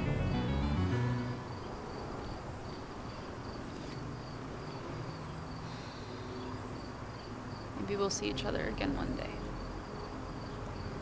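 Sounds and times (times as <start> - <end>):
insects chirping: 1.2 - 11.0.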